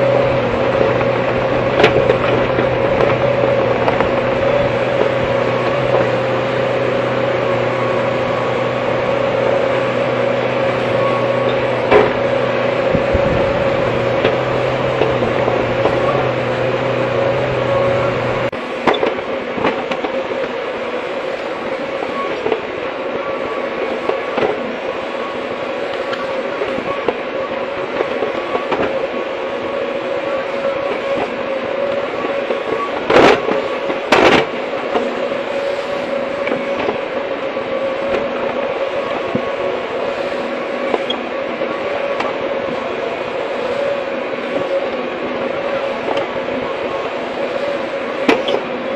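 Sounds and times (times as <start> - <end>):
excavator mechanical whine: 0.0 - 48.9
low engine hum: 0.0 - 48.9.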